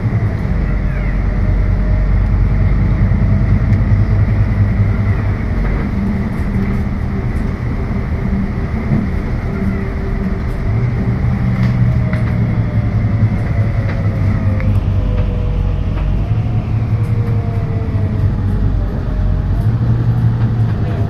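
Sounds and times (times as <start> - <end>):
bus body rattling: 0.0 - 21.0
bus engine drone with whine: 0.0 - 21.0.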